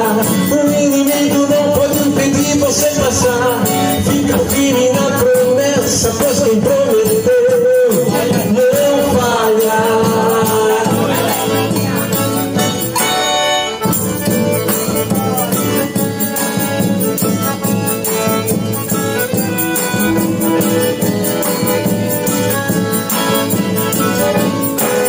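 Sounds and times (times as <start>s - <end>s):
live band playing gospel music: 0.0s - 25.0s
percussion beat: 0.0s - 25.0s.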